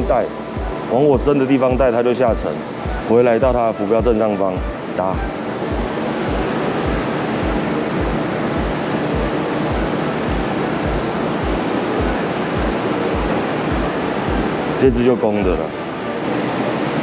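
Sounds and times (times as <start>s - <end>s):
music with low thudding beat: 0.0s - 16.3s.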